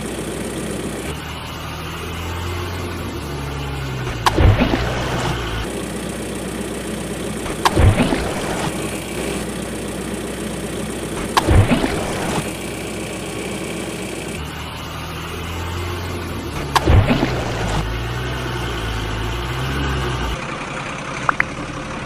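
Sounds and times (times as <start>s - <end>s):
engine burst: 0.0s - 21.9s
truck engine idling: 0.0s - 22.0s.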